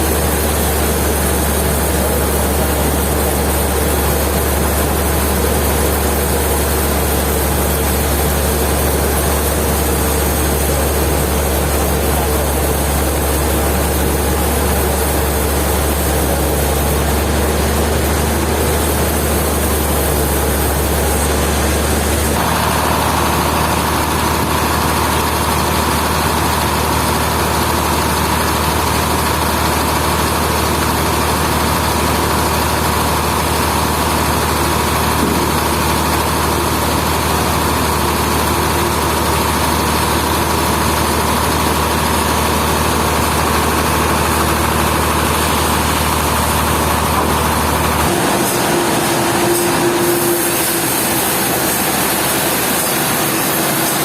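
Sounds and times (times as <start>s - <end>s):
heavy machinery humming: 0.0s - 54.0s
steady machine whine: 0.0s - 54.0s.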